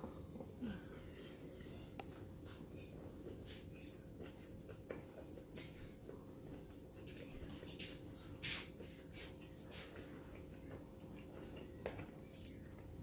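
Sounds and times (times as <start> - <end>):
low steady hum: 0.0 - 13.0
chewing crunchy food: 1.3 - 13.0.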